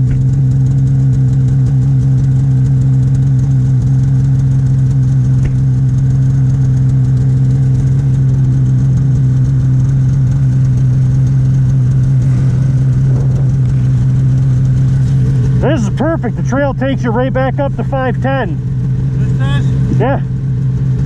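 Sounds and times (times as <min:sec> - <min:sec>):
snowmobile engine running: 0:00.0 - 0:21.0.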